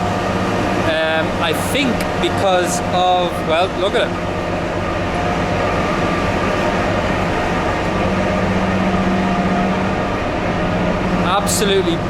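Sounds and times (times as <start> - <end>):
train mechanical drone: 0.0 - 12.0.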